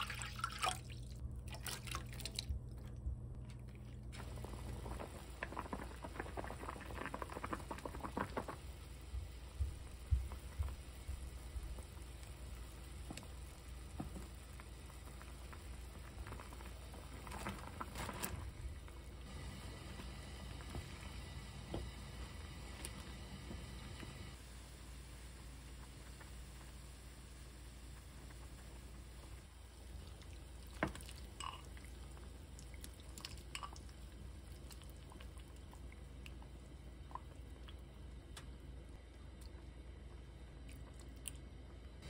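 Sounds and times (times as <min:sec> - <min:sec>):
broth boiling and bubbling: 0:00.0 - 0:42.0.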